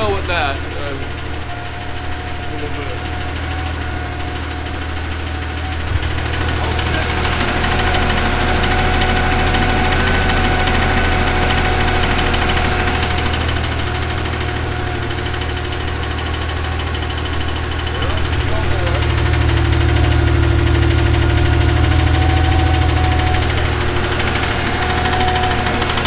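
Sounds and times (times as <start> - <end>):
car engine with rod knock: 3.2 - 26.0.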